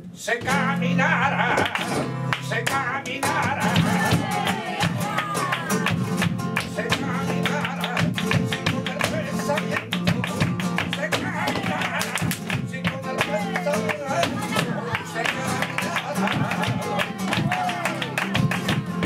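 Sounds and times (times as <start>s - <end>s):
flamenco guitar: 0.0s - 19.0s
flamenco singer's wavering voice: 0.0s - 19.0s.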